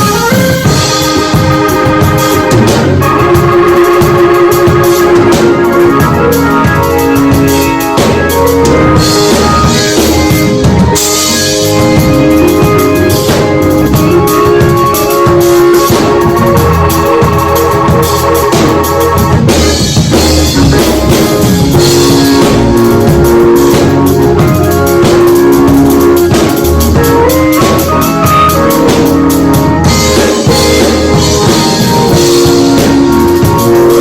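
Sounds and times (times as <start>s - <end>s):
band music: 0.0s - 34.0s
drum kit beat: 0.0s - 34.0s
held keyboard chords: 0.0s - 34.0s.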